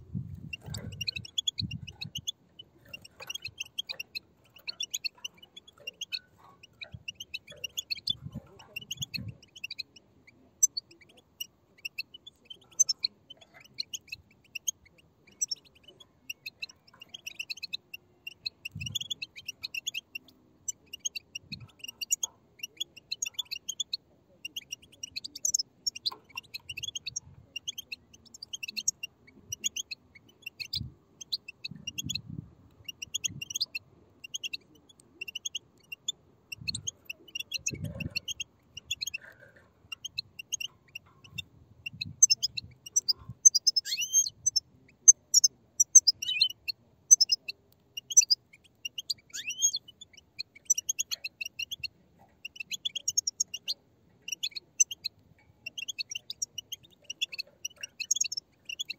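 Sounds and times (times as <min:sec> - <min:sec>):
chicks chirping: 0:00.0 - 0:58.9.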